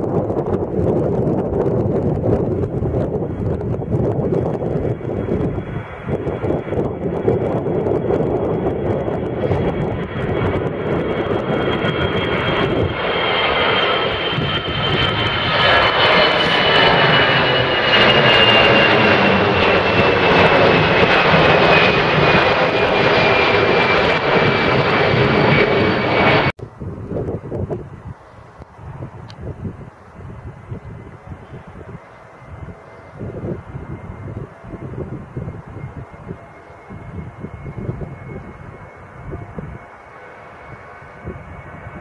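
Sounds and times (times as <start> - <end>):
high engine whine: 0.0 - 42.0
jet airliner taking off: 0.0 - 42.0.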